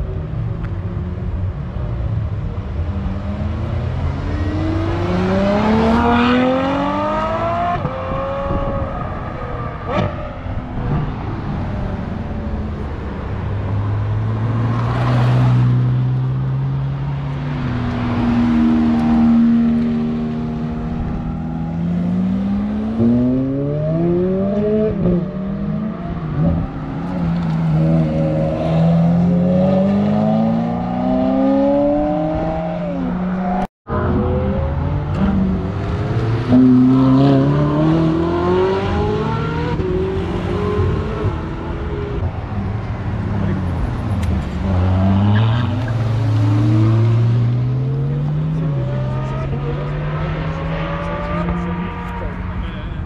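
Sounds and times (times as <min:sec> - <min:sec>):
sports car engine accelerating: 0:02.5 - 0:53.0.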